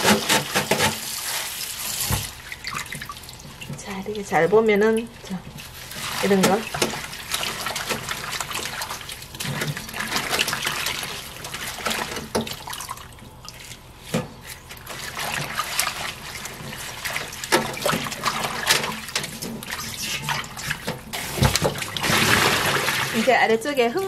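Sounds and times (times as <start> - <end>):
water splashing in a steel bowl: 0.0 - 23.5.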